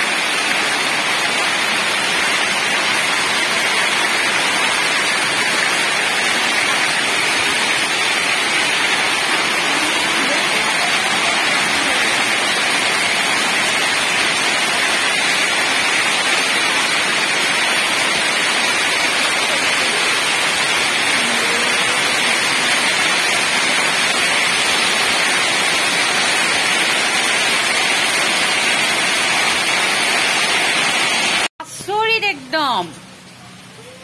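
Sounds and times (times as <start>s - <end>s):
hail and heavy rain falling: 0.0s - 31.5s.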